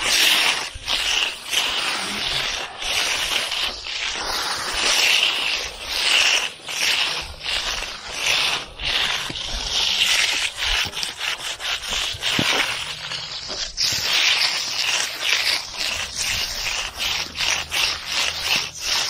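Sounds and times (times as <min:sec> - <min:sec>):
float scraping wet concrete: 0:00.0 - 0:19.0.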